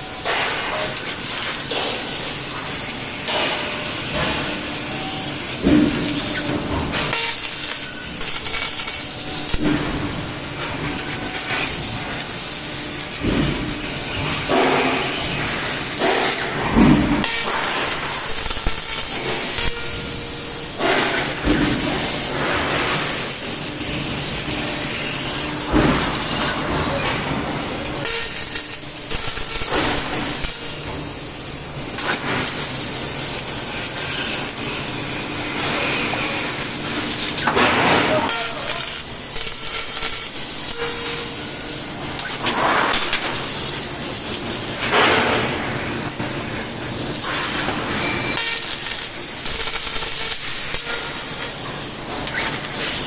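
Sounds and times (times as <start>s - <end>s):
laser cutter gas jet hissing: 0.0s - 26.7s, 27.9s - 53.0s.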